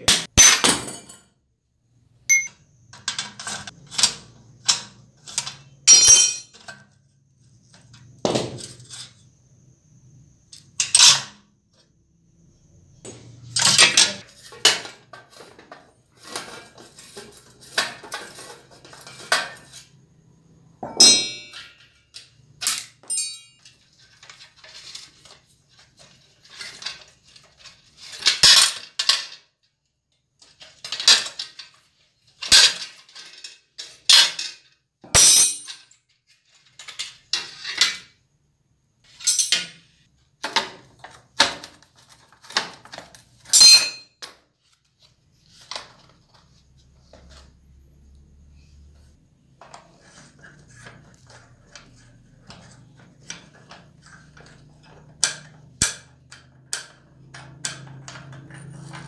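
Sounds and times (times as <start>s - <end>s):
tools and bicycle parts clinking: 0.0s - 1.4s, 2.3s - 9.4s, 10.4s - 11.9s, 13.1s - 38.3s, 39.0s - 47.7s, 49.5s - 59.0s.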